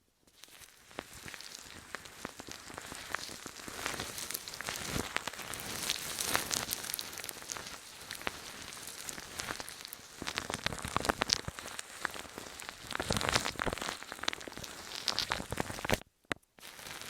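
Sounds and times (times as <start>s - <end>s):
soft hiss: 0.1s - 16.0s
dense crackling and clicking: 0.3s - 17.0s.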